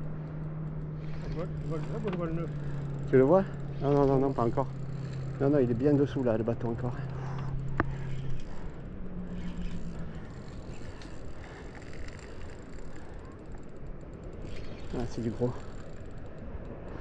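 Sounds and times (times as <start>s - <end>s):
fishing reel gears whirring: 0.0s - 17.0s
low steady hum: 0.0s - 17.0s
water noise: 0.0s - 17.0s
wind: 0.0s - 17.0s.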